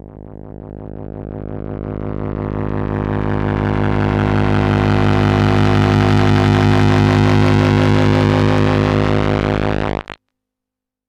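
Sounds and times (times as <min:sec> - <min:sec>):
droning music chord: 0:00.0 - 0:10.0.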